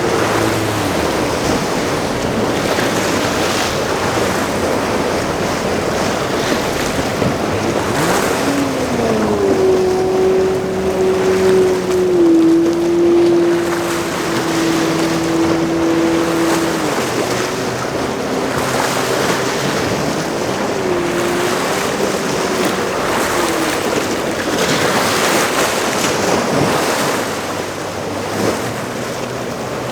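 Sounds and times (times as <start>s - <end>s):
motorboat engine: 0.0s - 29.9s
rushing water and breaking waves: 0.0s - 29.9s
wind buffeting microphone: 0.0s - 29.9s.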